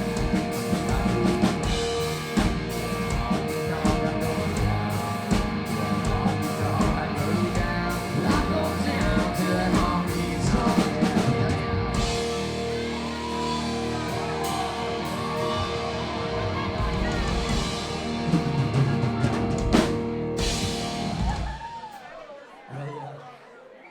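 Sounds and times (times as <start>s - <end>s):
bass guitar: 0.0s - 21.6s
electric guitars: 0.0s - 21.7s
drum kit: 0.0s - 22.2s.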